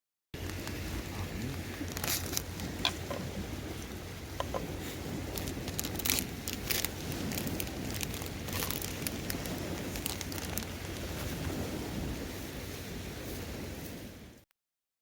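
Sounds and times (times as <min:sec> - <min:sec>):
low background rumble: 0:00.4 - 0:12.4
campfire wood crackling: 0:00.4 - 0:14.2.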